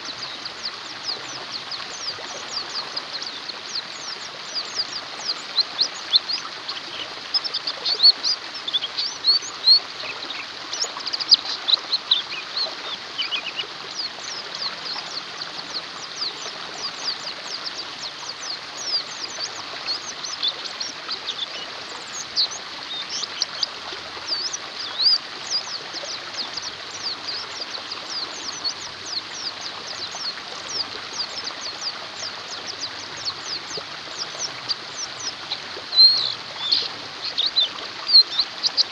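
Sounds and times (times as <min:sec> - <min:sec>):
birds chirping: 0:00.0 - 0:38.9
flowing water rushing: 0:00.0 - 0:38.9.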